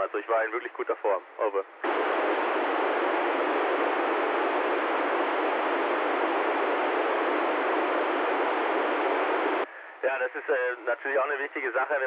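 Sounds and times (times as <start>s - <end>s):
radio static hiss: 0.1s - 12.0s.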